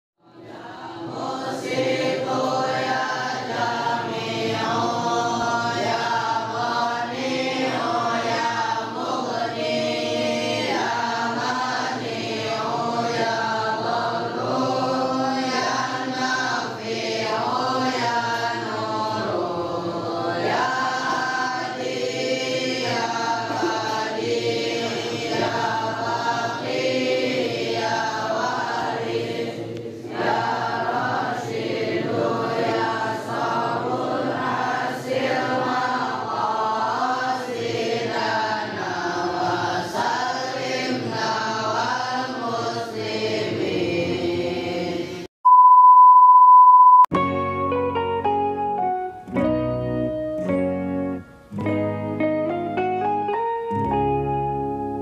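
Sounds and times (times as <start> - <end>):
group chanting: 0.2 - 45.3.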